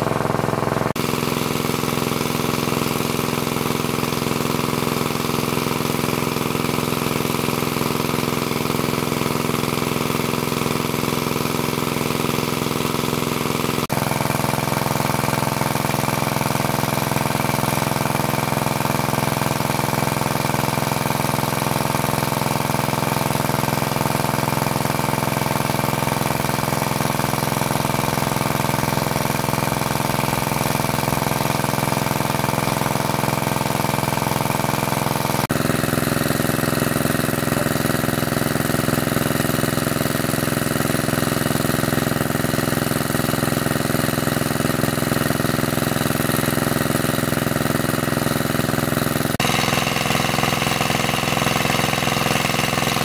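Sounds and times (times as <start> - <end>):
water pump engine running: 0.0 - 53.0.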